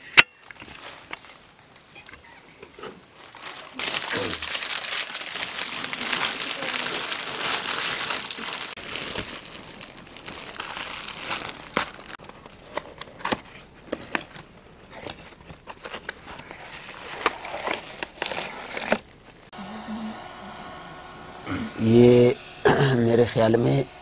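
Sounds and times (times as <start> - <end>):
plastic and cardboard crinkling: 0.1 - 19.6.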